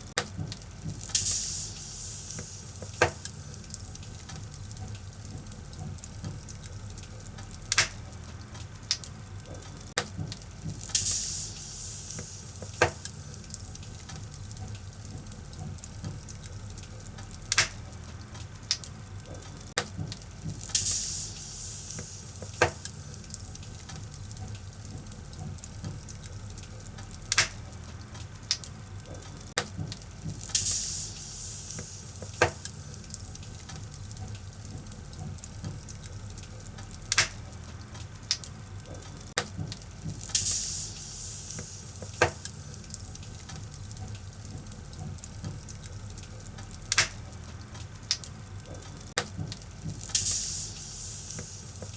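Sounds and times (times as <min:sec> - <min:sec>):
firewood crackling in fireplace: 0:00.0 - 0:51.9
sharp pops of burning wood: 0:00.2 - 0:09.1, 0:10.0 - 0:15.2, 0:16.1 - 0:18.9, 0:19.8 - 0:25.0, 0:27.0 - 0:28.7, 0:29.6 - 0:38.5, 0:39.4 - 0:48.3, 0:49.2 - 0:51.9.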